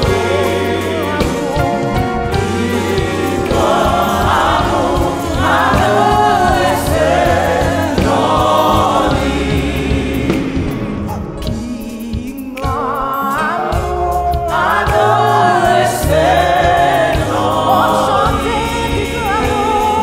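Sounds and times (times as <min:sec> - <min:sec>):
keyboard accompaniment: 0:00.0 - 0:20.0.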